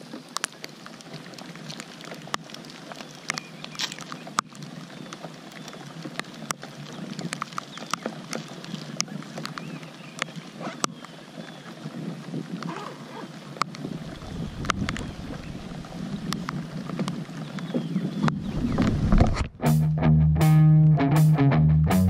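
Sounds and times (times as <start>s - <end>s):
raindrops ticking close by: 0.0s - 19.3s
rain falling on water: 0.0s - 19.6s.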